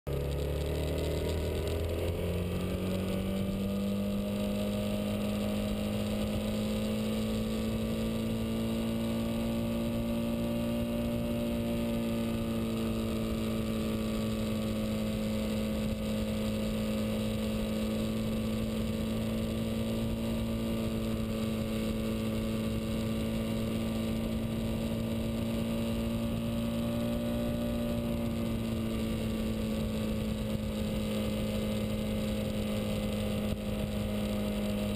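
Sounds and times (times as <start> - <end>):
motorcycle engine cruising: 0.1 - 34.9
wind and road noise: 0.1 - 34.9.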